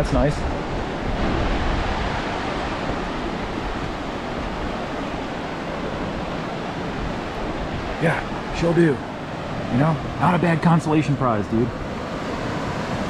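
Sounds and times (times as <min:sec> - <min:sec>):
river whitewater rushing: 0:00.0 - 0:13.0.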